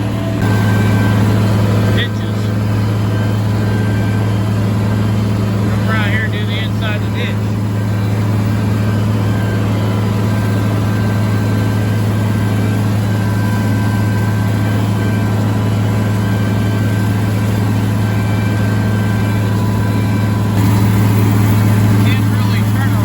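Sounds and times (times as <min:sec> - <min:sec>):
tractor diesel engine droning: 0:00.0 - 0:23.0.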